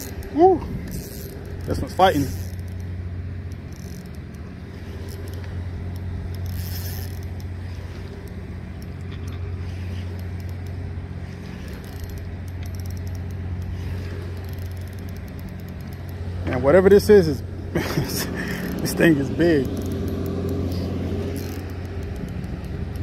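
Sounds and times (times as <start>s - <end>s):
constant low hum: 0.0s - 23.0s
fishing reel cranking: 0.0s - 23.0s.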